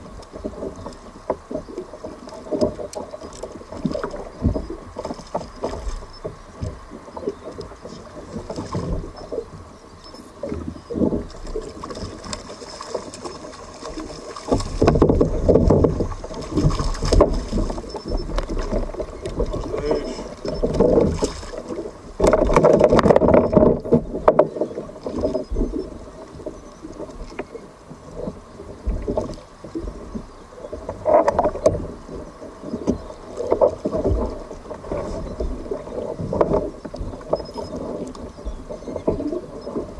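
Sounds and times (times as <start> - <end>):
water splashing against kayak: 0.0 - 39.9.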